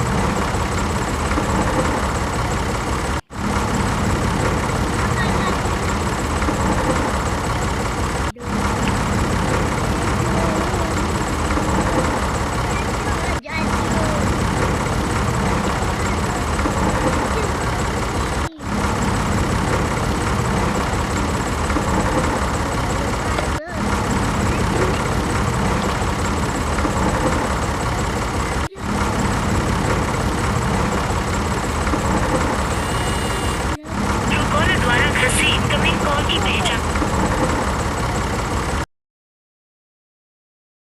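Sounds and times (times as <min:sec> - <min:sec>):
tractor diesel engine running: 0:00.0 - 0:38.8.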